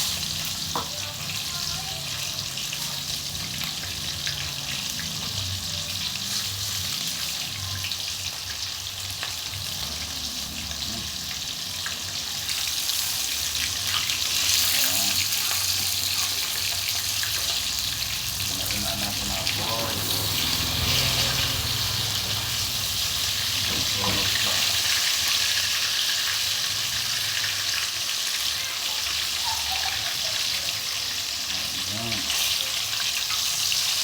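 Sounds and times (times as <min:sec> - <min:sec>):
gravy sizzling and bubbling: 0:00.0 - 0:34.0.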